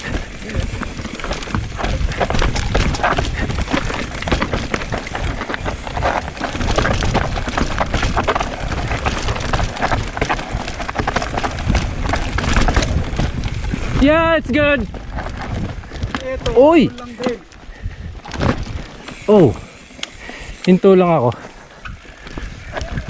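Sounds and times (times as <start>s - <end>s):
wind rumble on microphone: 0.0s - 20.7s, 21.7s - 23.0s
bike rattling and clattering: 0.0s - 23.0s
bike tyres crunching over dirt: 0.0s - 23.0s.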